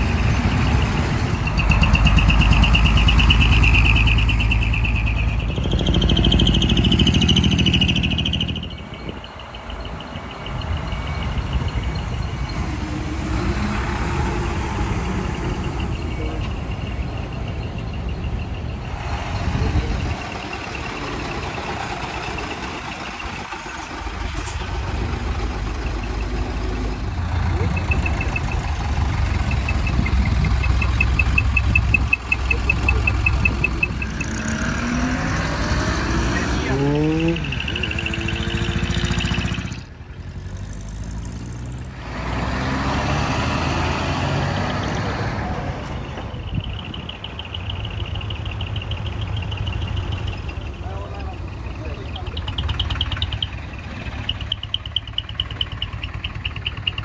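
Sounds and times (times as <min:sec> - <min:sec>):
truck diesel engine rumble: 0:00.0 - 0:57.0.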